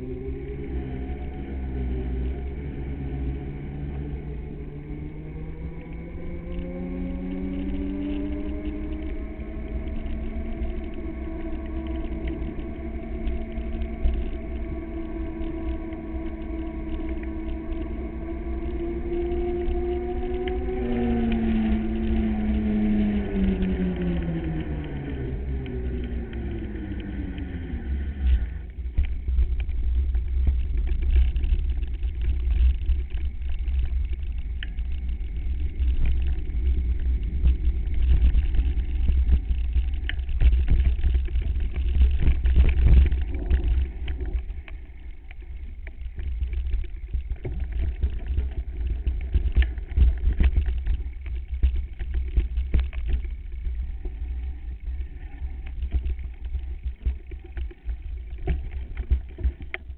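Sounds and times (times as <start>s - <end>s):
hum falling in pitch: 0.0s - 59.9s
wind buffeting microphone: 0.0s - 59.9s.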